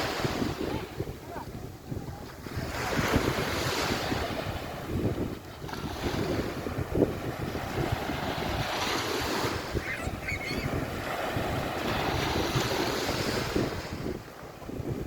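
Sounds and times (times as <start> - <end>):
surf washing on beach: 0.0 - 15.0
wind gusting on microphone: 0.0 - 15.0.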